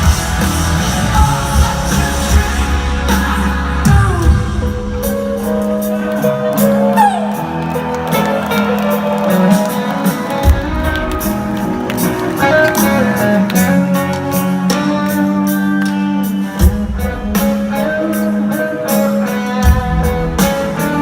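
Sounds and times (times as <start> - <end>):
electric guitar: 0.0 - 21.0
rock band playing live: 0.0 - 21.0.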